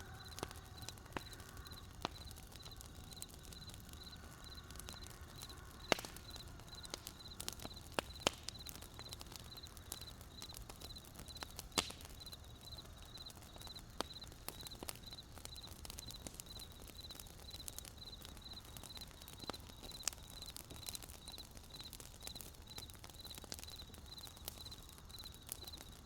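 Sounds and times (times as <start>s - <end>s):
campfire wood crackling: 0.0s - 26.0s
cricket chirping: 0.0s - 26.0s.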